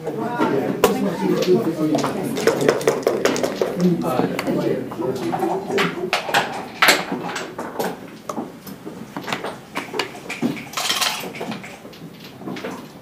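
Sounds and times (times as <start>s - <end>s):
backgammon checkers clacking: 0.8s - 12.9s.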